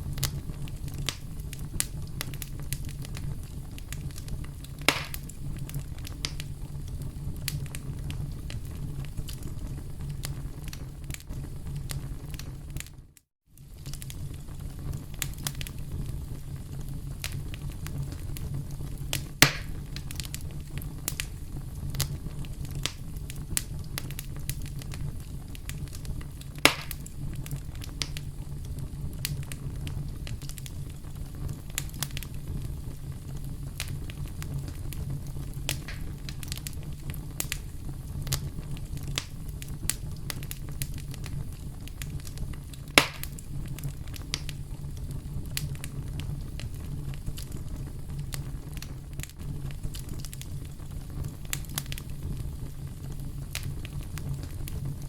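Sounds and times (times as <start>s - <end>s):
burning wood crackling: 0.0s - 55.0s
campfire flames rumbling: 0.0s - 55.0s
loud fire pops: 0.0s - 55.0s.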